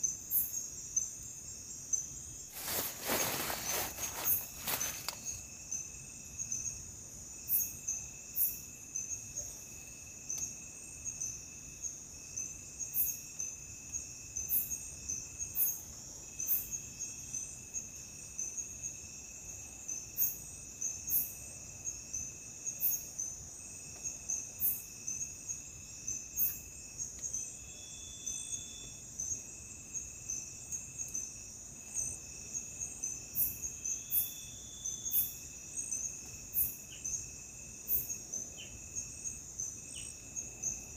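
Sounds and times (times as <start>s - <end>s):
insects pulsing trill: 0.0s - 40.9s.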